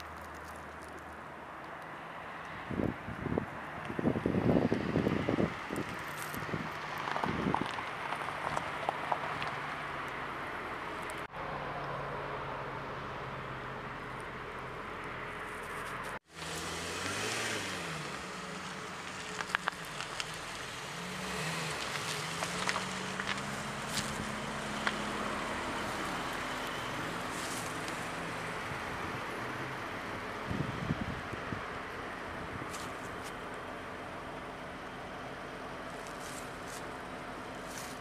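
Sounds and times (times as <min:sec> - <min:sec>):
steady outdoor noise: 0:00.0 - 0:38.0
vehicle engine running: 0:04.5 - 0:38.0.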